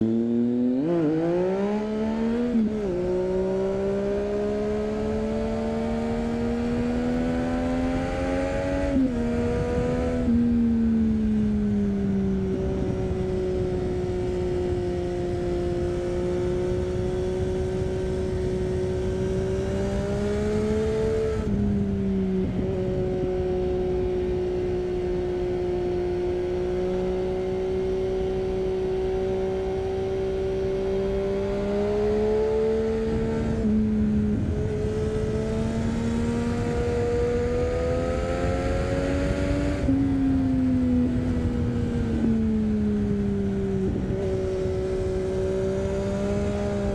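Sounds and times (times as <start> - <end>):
motorcycle engine running: 2.2 - 46.9.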